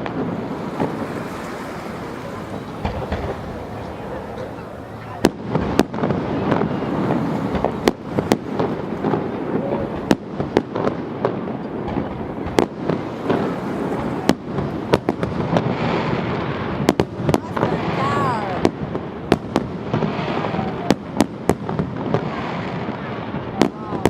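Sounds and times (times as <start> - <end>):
sharp firework bangs: 0.0 - 24.0.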